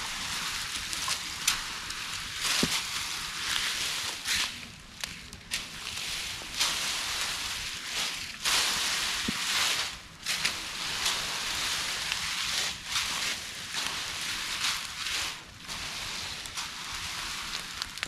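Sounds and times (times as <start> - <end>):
dry plants rustling and crackling: 0.0 - 18.0.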